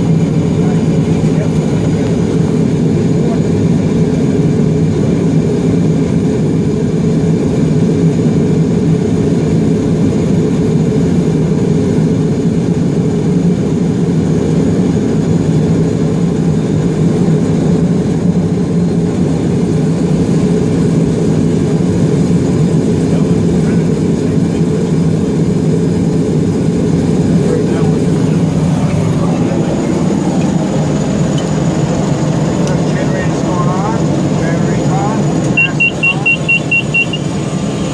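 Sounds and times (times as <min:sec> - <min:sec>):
aircraft engine and propeller drone: 0:00.0 - 0:37.9.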